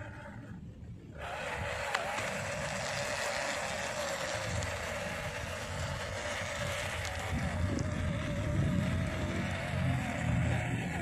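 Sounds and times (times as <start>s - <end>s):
toy car electric motor whining: 0.0s - 11.0s
tyres rumbling over dirt: 1.2s - 11.0s.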